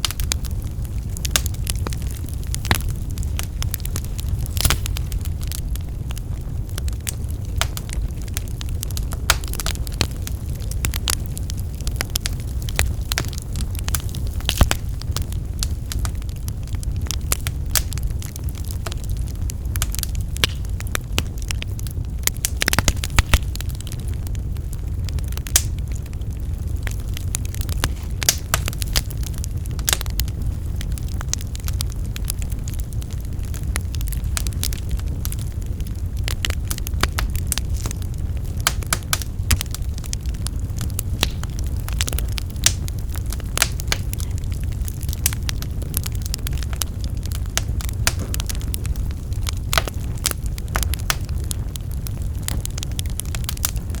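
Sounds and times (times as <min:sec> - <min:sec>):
logs crackling and popping: 0:00.0 - 0:54.0
low rumble of fire: 0:00.0 - 0:54.0.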